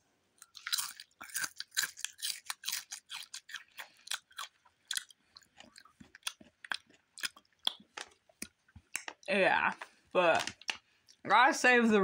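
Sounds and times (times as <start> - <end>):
chewing crunchy chips: 0.4 - 11.3.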